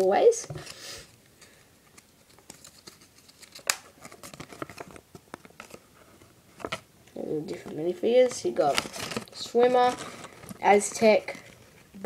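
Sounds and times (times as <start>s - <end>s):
paper leaflet rustling and crackling: 1.4s - 6.8s, 7.5s - 11.9s.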